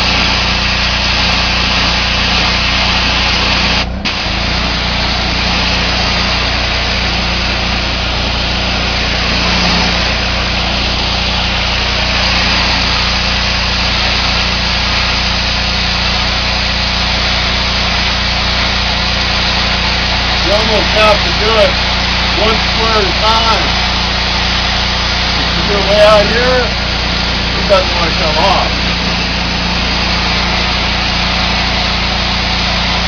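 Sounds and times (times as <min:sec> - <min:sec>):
pressure washer pump hum: 0:00.0 - 0:33.0
water jet hissing: 0:00.0 - 0:33.0.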